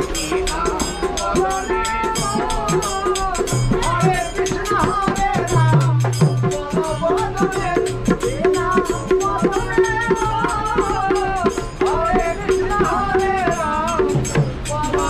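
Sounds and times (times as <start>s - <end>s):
hand drum beating: 0.0s - 15.0s
jingling hand percussion: 0.0s - 15.0s
man singing folk song: 0.0s - 15.0s.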